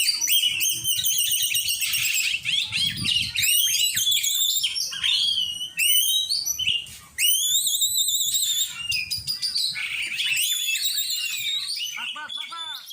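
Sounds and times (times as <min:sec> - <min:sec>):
bird singing whistled phrases: 0:00.0 - 0:12.9.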